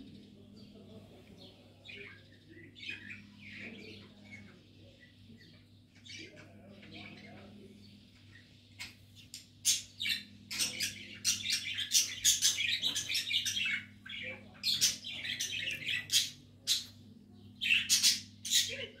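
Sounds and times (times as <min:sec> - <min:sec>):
bird chirping and chattering: 0:01.9 - 0:19.0.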